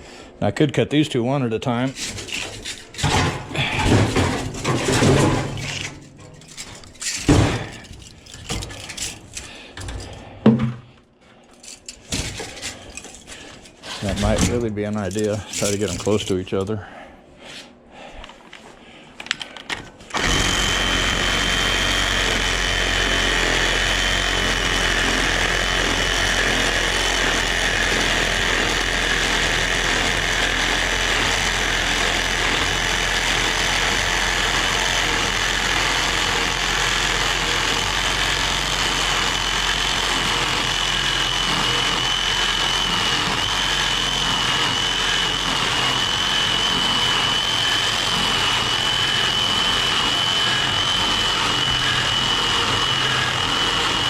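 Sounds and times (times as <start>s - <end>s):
reciprocating saw cutting metal: 1.8s - 10.1s, 11.6s - 16.4s, 20.1s - 54.0s.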